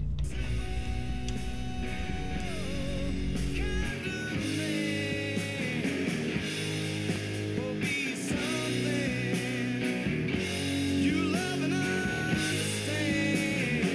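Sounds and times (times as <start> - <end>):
rock music with electric guitar: 0.0 - 13.9.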